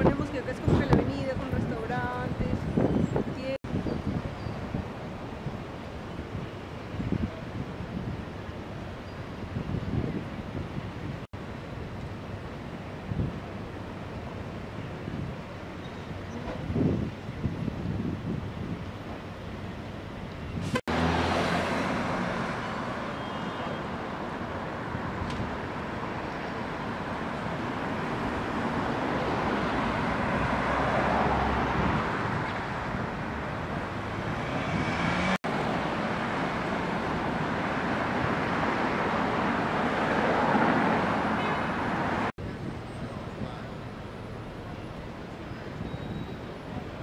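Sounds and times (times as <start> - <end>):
cars passing on a street: 0.0 - 47.0.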